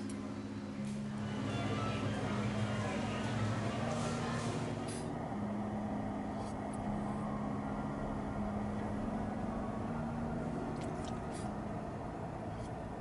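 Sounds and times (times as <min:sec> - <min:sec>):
car interior road noise: 0:00.0 - 0:13.0.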